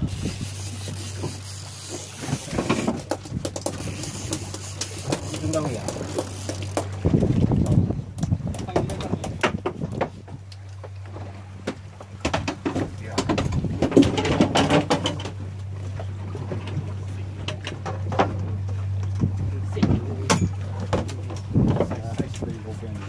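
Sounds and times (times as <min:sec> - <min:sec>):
outboard engine idling: 0:00.0 - 0:23.0.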